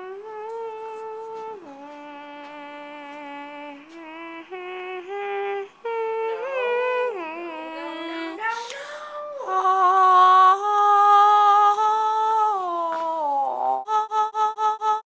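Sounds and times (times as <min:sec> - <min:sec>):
person singing wordless notes: 0:00.0 - 0:15.0
breathy hiss: 0:00.8 - 0:13.8.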